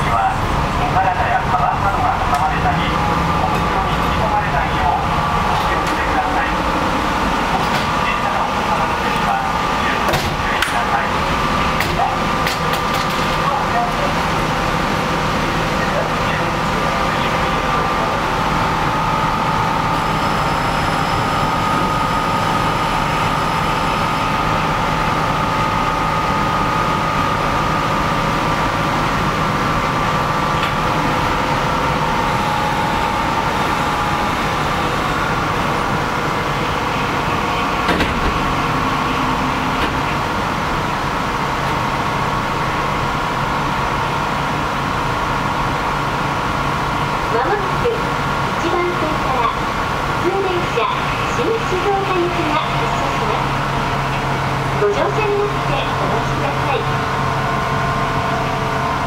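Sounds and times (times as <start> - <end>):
train equipment hum and whine: 0.0 - 59.0.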